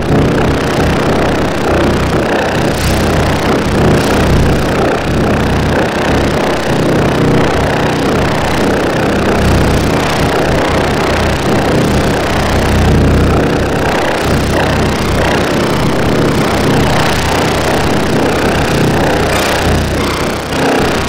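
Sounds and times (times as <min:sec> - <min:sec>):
engine-like machine rumble: 0:00.0 - 0:21.0
low hum: 0:00.0 - 0:21.0.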